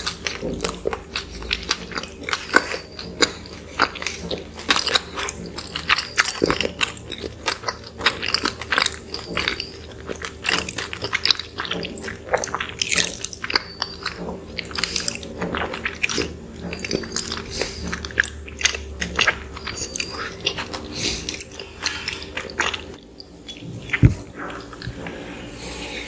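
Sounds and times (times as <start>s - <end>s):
chewing soft bread rolls: 0.0s - 26.0s.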